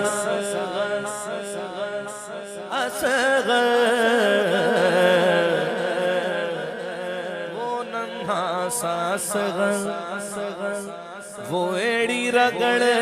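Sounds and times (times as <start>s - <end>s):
man singing with echo: 0.0s - 13.0s.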